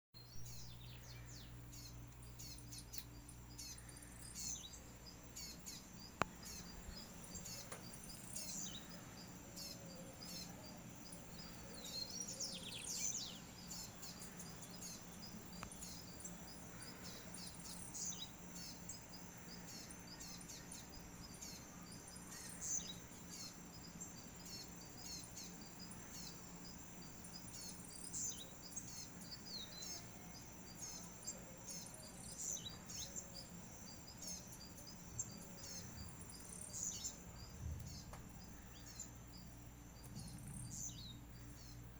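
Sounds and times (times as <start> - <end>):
insects chirping: 0.2 - 41.9.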